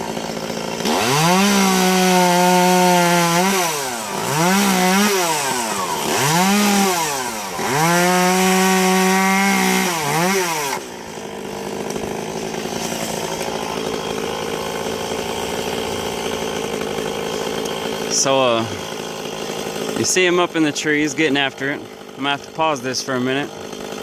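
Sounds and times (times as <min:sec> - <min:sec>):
chainsaw revving: 0:00.0 - 0:24.0.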